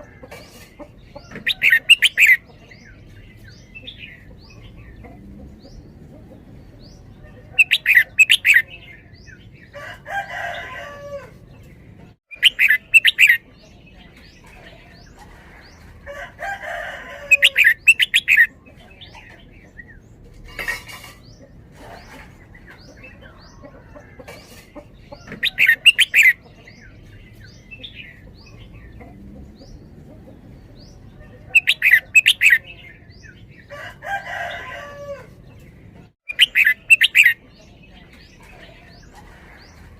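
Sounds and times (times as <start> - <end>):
bird singing rapid phrases: 0.0 - 39.9.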